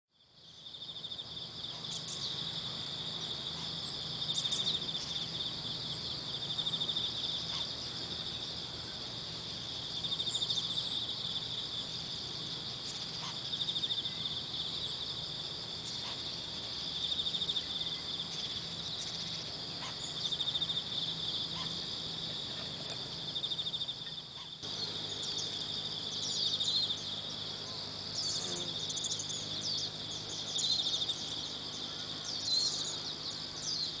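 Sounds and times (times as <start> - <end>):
shrill insect chorus: 0.2 - 34.0.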